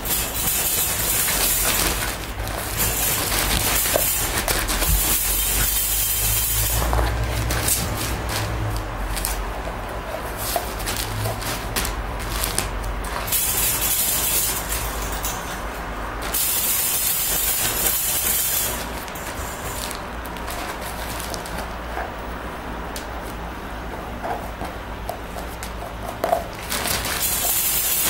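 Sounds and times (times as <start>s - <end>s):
plastic bags crinkling and rustling: 0.0s - 22.2s, 23.2s - 28.0s.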